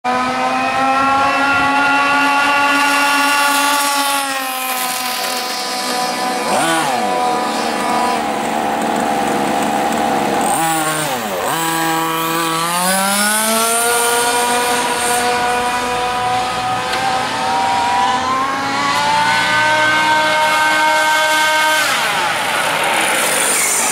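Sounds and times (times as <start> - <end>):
rc car engines revving: 0.1 - 23.9.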